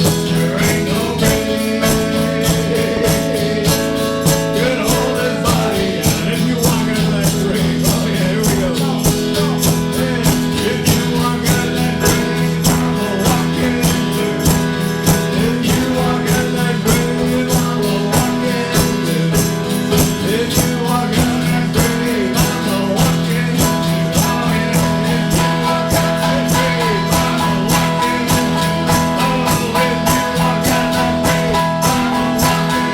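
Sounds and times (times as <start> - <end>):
guitar chords: 0.0 - 32.9
steady percussion beat: 0.0 - 32.9.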